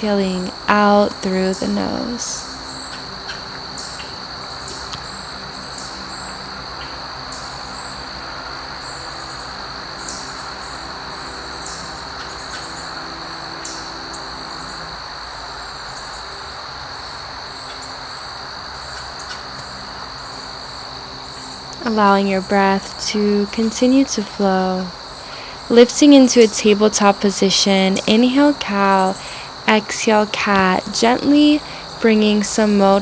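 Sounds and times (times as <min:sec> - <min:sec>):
cricket chirps: 0:00.0 - 0:33.0
crickets trilling: 0:00.0 - 0:33.0
soft background music: 0:00.0 - 0:33.0.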